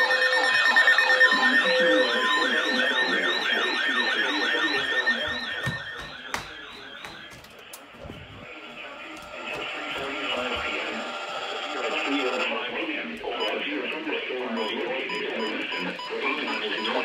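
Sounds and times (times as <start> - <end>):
electronic sirens wailing: 0.0 - 17.0.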